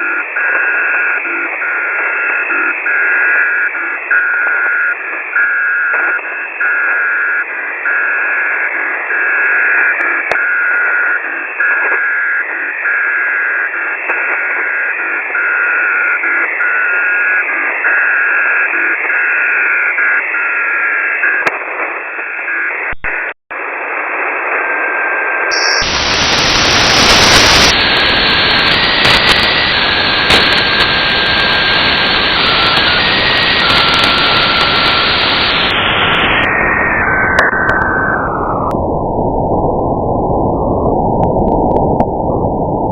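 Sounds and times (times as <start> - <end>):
radio static: 0.0 - 39.6
keyed radio tone: 0.0 - 42.9.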